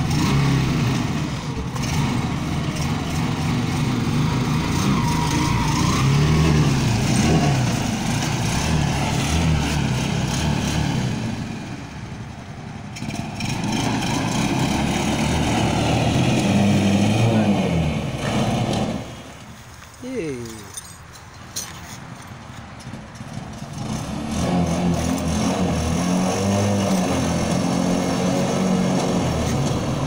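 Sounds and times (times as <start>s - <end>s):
motorcycle engine revving: 0.0s - 19.4s, 22.8s - 30.0s.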